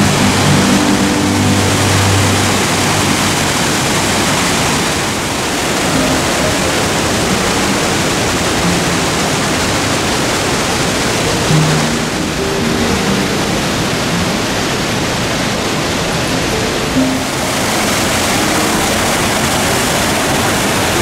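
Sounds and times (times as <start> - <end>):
rushing water roar: 0.0 - 21.0.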